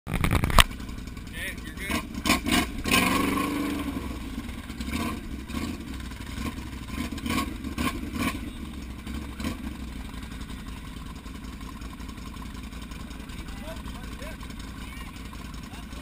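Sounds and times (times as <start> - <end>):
quad engines idling: 0.1 - 16.0.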